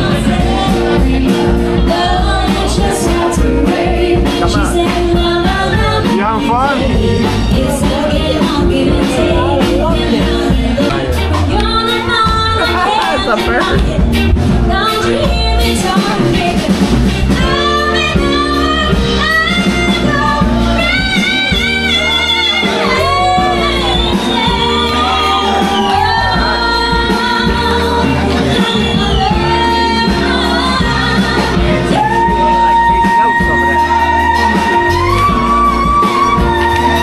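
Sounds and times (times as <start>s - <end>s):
bass line and chords: 0.0s - 37.0s
person singing: 0.0s - 37.0s.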